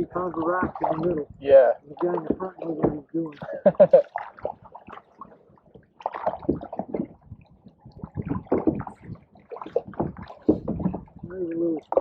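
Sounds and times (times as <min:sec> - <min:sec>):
canoe paddles splashing in water: 0:00.0 - 0:12.0.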